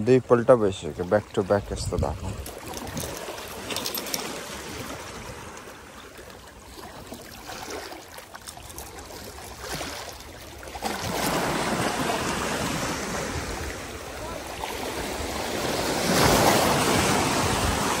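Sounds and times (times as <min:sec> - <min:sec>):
waves lapping over rocks: 0:00.0 - 0:18.0
wind: 0:00.0 - 0:18.0.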